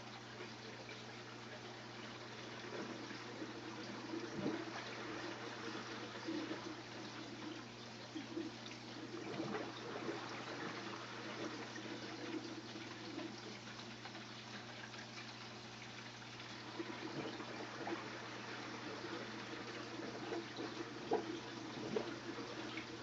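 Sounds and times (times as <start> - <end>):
aquarium water trickling: 0.0 - 23.0
constant low hum: 0.0 - 23.0.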